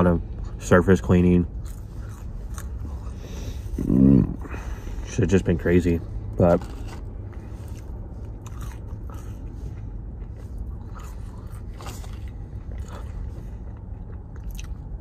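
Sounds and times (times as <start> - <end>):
steady low hum: 0.0 - 15.0
person chewing crunchy food: 1.5 - 5.2, 6.2 - 15.0.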